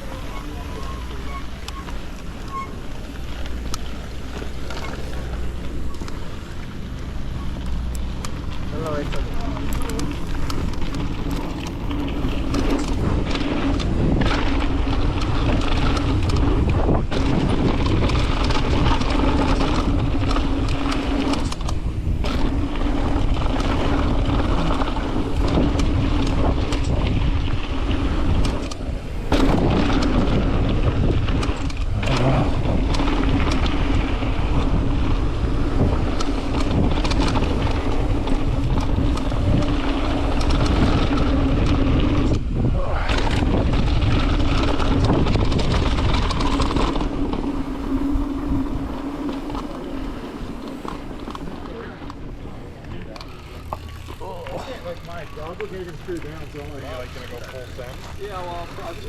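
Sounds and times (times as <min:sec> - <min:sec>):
bike rattling and clicking: 0:00.0 - 0:59.0
tyres and wind roar: 0:00.0 - 0:59.0.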